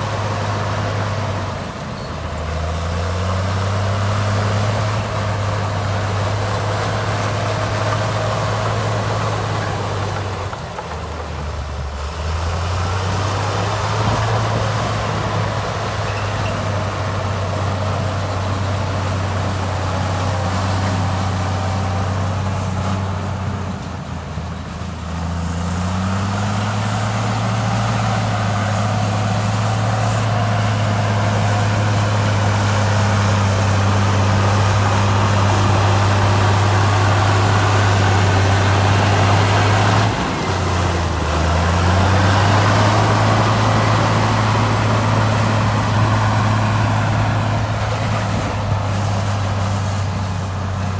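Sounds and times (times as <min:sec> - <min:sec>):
heavy diesel engine droning: 0:00.0 - 0:50.9.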